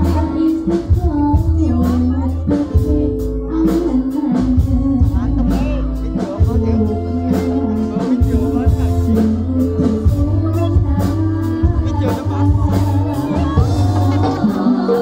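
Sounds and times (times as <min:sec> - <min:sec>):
deep bass line: 0:00.0 - 0:15.0
drum strokes: 0:00.0 - 0:15.0
woman singing into microphone: 0:00.0 - 0:15.0.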